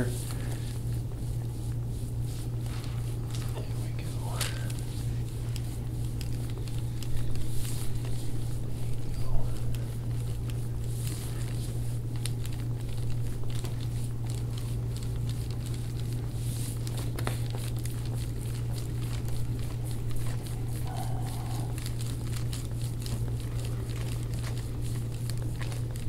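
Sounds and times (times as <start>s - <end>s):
hands rubbing on skin: 0.0s - 26.0s
steady low hum: 0.0s - 26.0s.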